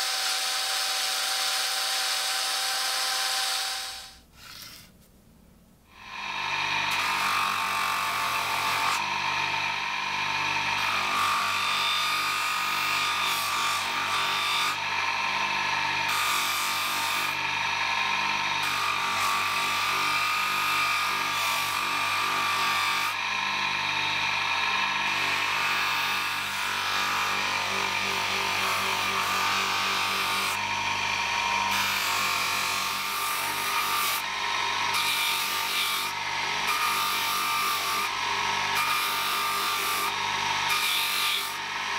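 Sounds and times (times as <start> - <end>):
bench polisher motor hum: 0.0 - 4.8, 5.9 - 41.9.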